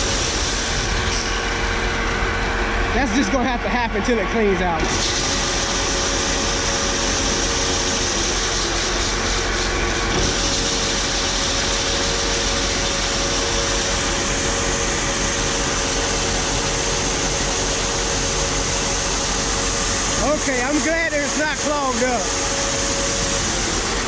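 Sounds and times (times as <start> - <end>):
grain auger running: 0.0 - 24.0.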